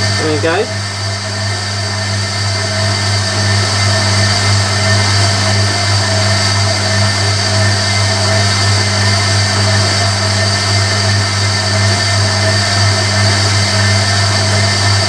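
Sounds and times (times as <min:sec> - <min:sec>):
high whine: 0:00.0 - 0:15.0
washing machine motor humming: 0:00.0 - 0:15.0.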